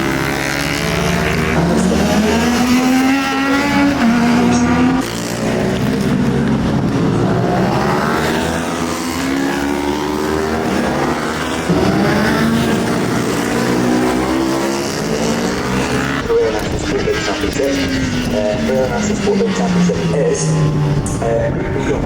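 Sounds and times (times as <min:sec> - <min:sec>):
racing motorcycles revving: 0:00.0 - 0:22.0.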